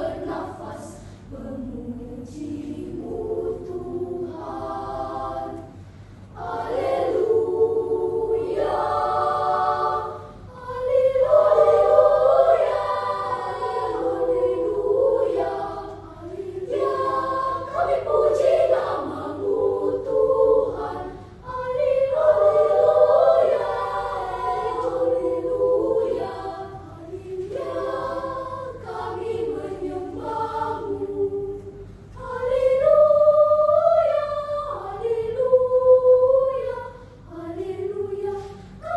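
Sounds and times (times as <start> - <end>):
choir singing: 0.0 - 5.8, 6.4 - 38.9.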